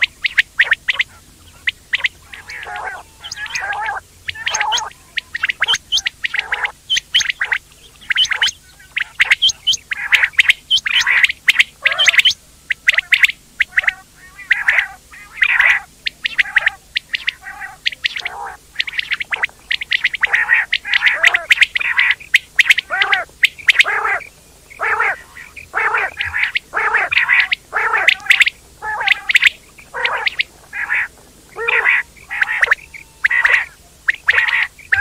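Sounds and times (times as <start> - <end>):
quail chirping calls: 0.0 - 35.0.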